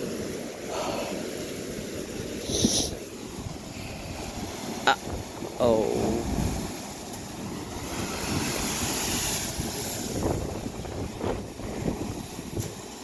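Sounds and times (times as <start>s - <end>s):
sea surging through blowhole: 0.0s - 13.0s
wind rumbling on microphone: 0.0s - 13.0s.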